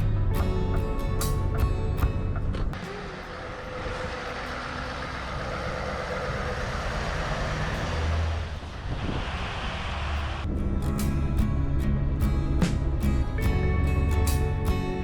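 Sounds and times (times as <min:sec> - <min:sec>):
road noise: 0:00.0 - 0:15.0
truck engine running: 0:00.0 - 0:15.0.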